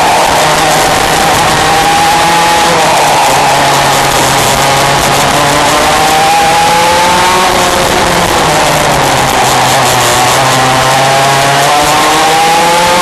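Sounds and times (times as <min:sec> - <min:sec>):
wind noise: 0:00.0 - 0:12.6
kart engines racing: 0:00.0 - 0:13.0.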